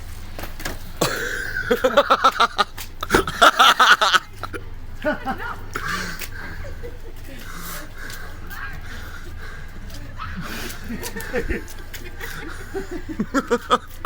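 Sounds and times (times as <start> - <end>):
person laughing hard: 1.0 - 14.0.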